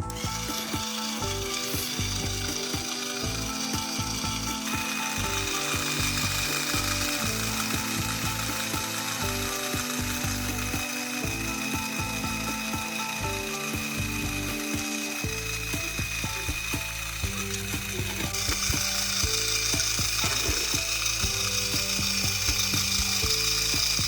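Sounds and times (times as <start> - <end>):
ratchet clicking: 0.0 - 24.0
steady high whine: 0.0 - 24.0.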